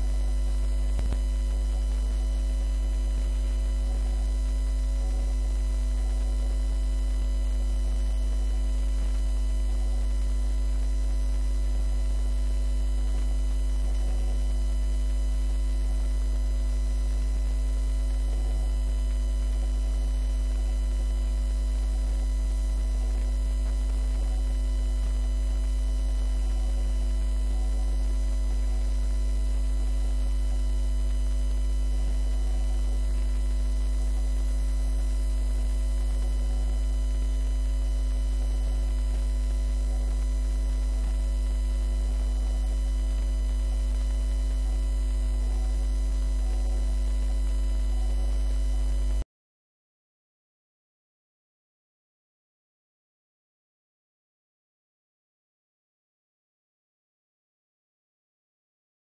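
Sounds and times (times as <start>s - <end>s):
electrical mains hum: 0.0s - 49.2s.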